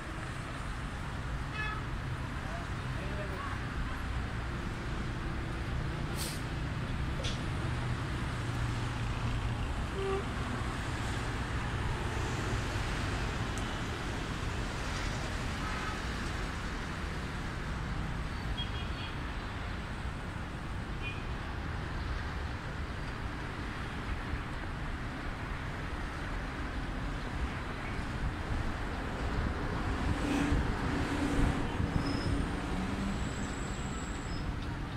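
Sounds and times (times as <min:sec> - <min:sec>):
cars and buses passing: 0:00.0 - 0:34.9.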